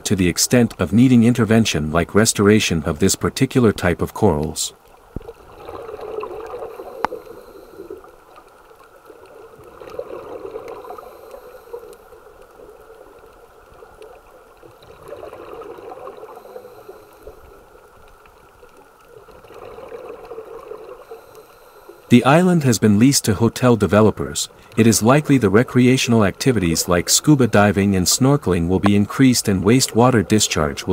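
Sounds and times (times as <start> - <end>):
underwater exhaust bubbles gurgling: 4.2 - 30.9.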